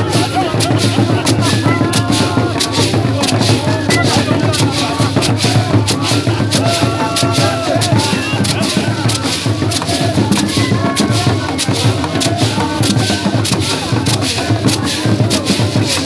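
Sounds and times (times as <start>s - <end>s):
drum ensemble playing: 0.0s - 16.0s.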